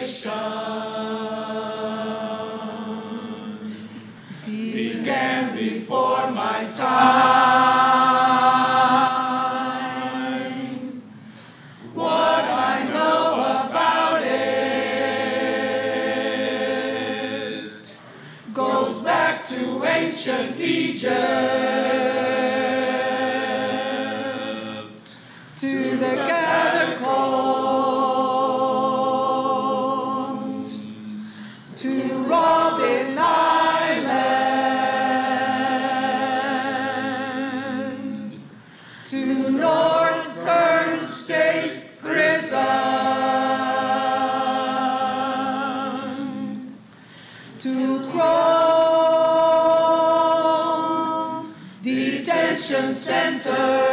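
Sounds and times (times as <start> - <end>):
mixed choir singing a cappella: 0.0 - 53.9.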